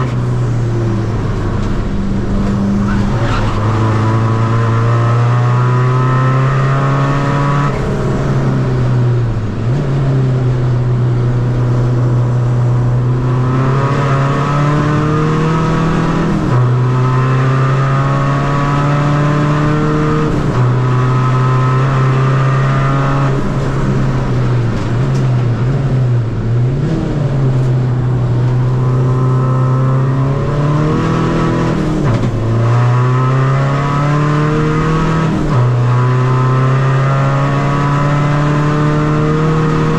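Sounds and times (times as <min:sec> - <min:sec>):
diesel engine revving under full throttle: 0:00.0 - 0:39.9.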